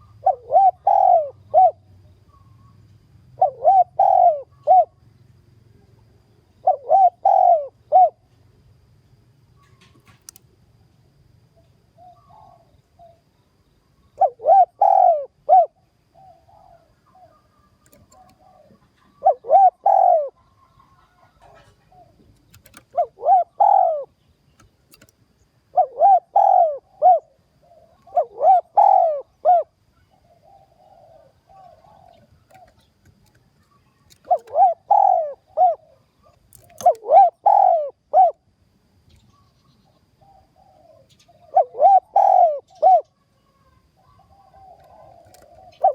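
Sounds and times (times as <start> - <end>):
dove cooing: 0.0 - 5.0, 6.1 - 8.3, 11.5 - 13.3, 13.9 - 25.1, 25.7 - 38.5, 39.3 - 45.9.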